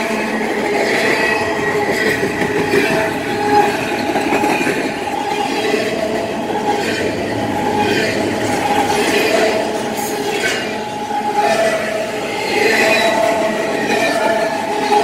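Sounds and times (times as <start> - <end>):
freight train wheels rumbling on rail: 0.0 - 15.0.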